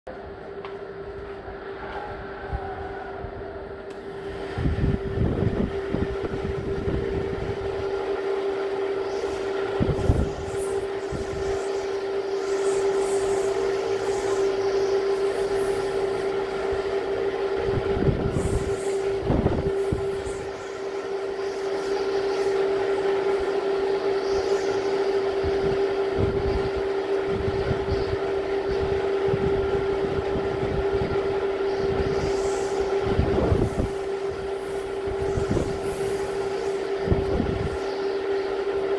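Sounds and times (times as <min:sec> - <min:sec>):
steady droning hum: 0:00.1 - 0:38.9
wind buffeting microphone: 0:02.1 - 0:38.9.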